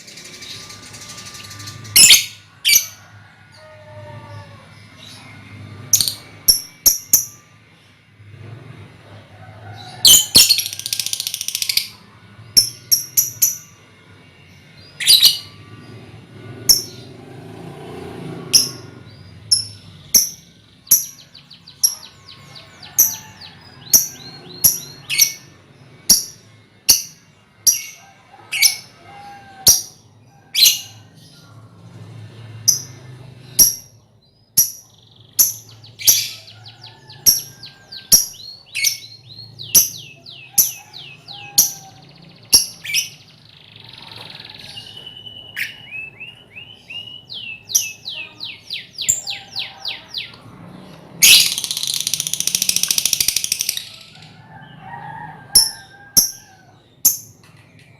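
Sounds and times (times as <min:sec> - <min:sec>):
lovebirds chirping and chattering: 0:00.0 - 0:07.4, 0:09.8 - 0:12.0, 0:14.6 - 0:16.0, 0:18.6 - 0:31.4, 0:32.7 - 0:57.9.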